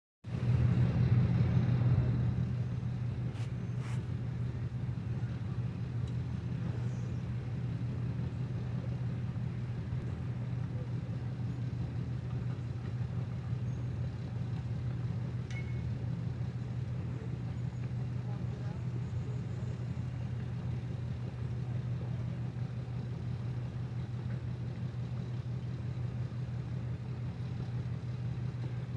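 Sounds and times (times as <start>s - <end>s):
engine idling: 0.2s - 28.9s.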